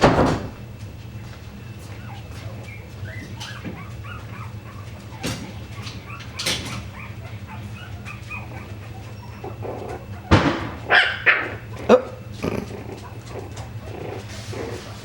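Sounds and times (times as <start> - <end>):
puppies squeaking and whimpering: 1.6 - 15.0.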